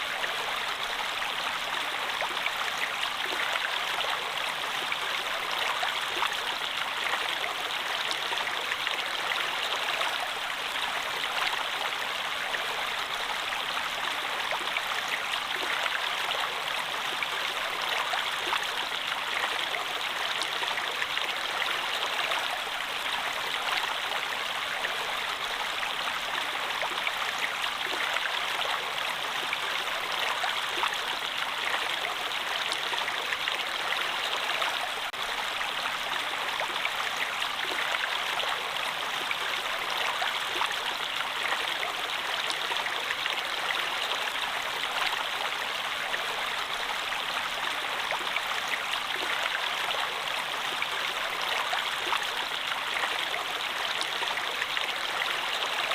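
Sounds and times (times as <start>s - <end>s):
stream water flowing: 0.0s - 55.9s.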